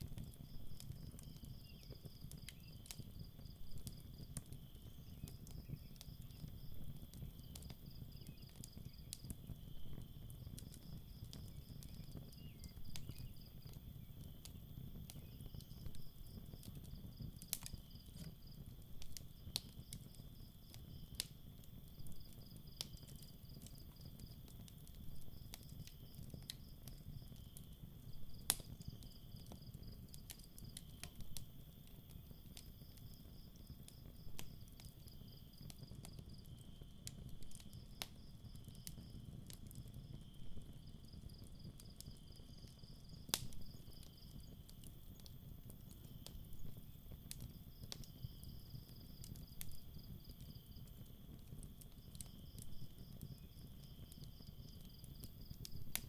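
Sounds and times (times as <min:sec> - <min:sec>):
campfire crackling and popping: 0:00.0 - 0:56.0
crickets chirping: 0:00.4 - 0:36.7, 0:40.0 - 0:51.1, 0:52.0 - 0:56.0.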